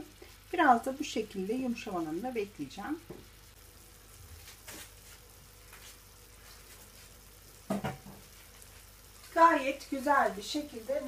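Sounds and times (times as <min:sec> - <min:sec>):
vegetables sizzling in oil: 0:00.0 - 0:11.0
oil crackles: 0:00.1 - 0:11.0.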